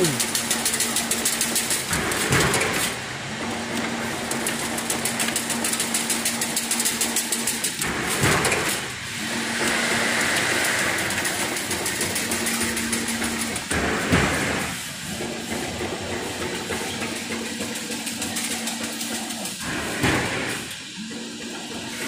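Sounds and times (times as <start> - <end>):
motor hum: 0.0 - 22.0.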